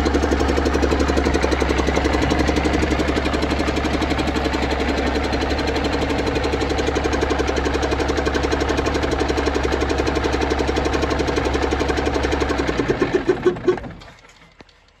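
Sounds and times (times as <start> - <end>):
diesel engine running and shutting off: 0.0 - 15.0.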